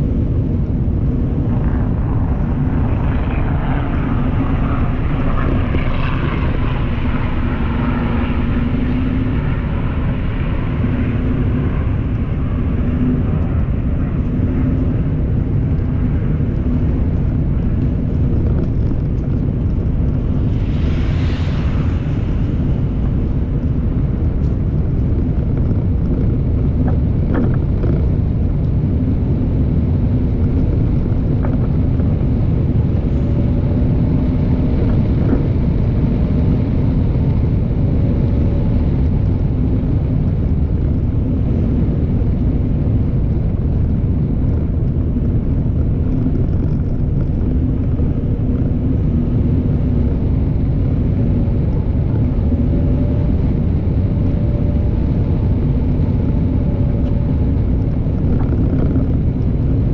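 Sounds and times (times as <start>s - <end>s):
car road and engine rumble: 0.0s - 59.9s
faint wavering hum: 0.0s - 59.9s.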